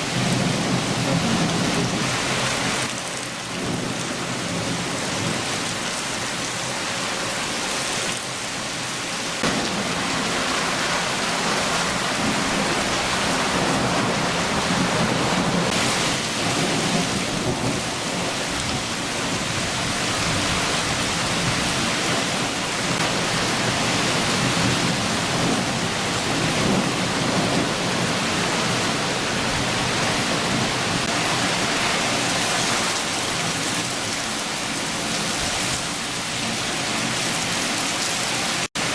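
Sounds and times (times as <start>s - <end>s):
thunder rumbling: 0.0s - 5.9s, 9.4s - 37.2s
heavy rain falling: 0.0s - 38.9s.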